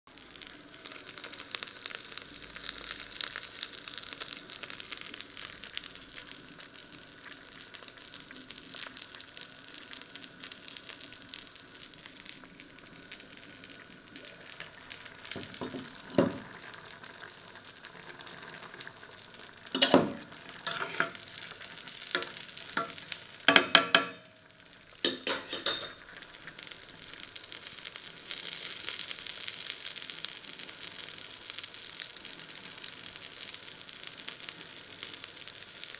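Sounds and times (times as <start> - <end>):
frying sizzle: 0.1 - 35.9.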